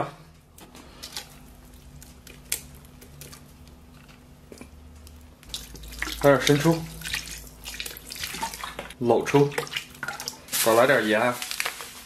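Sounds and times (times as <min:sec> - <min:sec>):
wet squishes of paste: 0:00.6 - 0:12.0.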